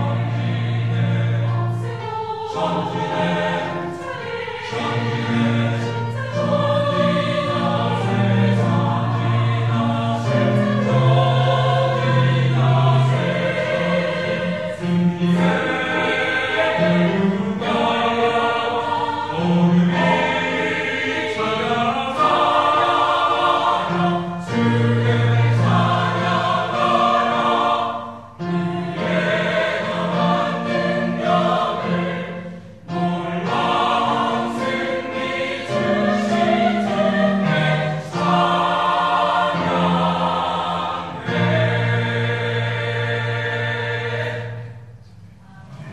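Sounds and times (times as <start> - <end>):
choir singing a hymn: 0.0 - 45.9.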